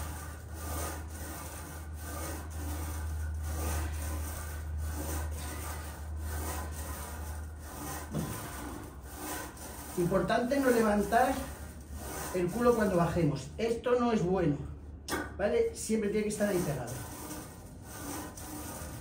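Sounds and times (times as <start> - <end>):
machine bar rubbing on guide rods: 0.0 - 13.8, 15.6 - 19.0
steady low hum: 0.0 - 19.0.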